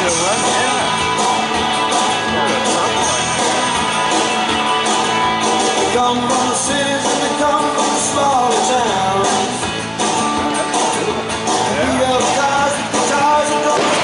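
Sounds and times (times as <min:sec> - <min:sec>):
rock song with guitar: 0:00.0 - 0:14.0.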